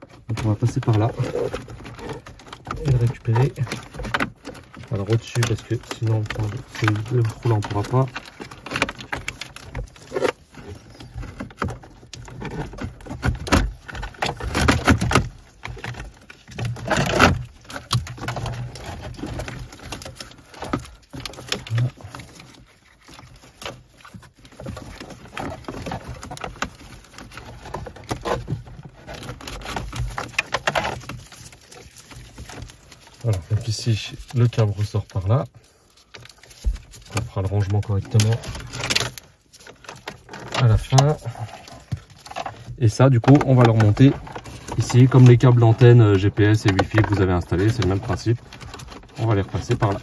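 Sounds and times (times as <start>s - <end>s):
cables rustling against plastic: 0.0s - 50.0s.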